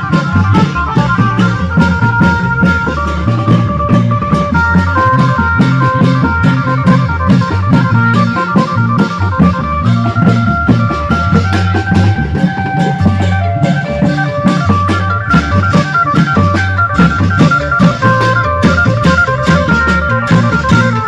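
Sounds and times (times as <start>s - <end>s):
long drums steady beat: 0.0s - 21.0s.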